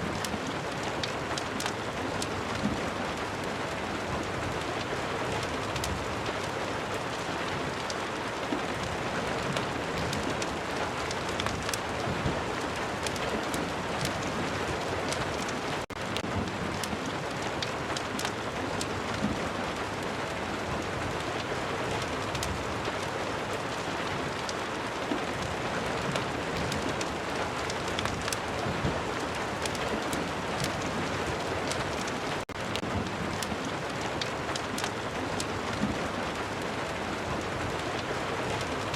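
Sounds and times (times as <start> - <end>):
heavy rain: 0.0 - 38.9
fireplace crackling: 4.6 - 20.0, 20.8 - 24.7, 25.4 - 38.9.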